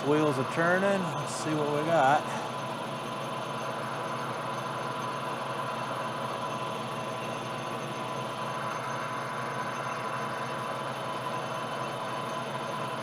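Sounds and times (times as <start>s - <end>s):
metal lathe humming: 0.0s - 13.0s.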